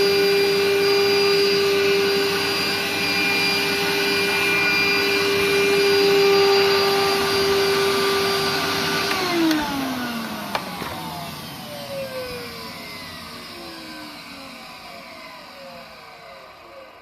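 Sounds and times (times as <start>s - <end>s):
vacuum motor whine: 0.0s - 17.0s.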